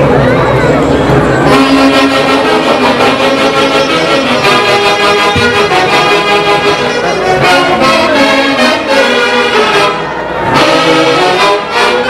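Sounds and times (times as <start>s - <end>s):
ensemble led by saxophones: 0.8s - 12.0s.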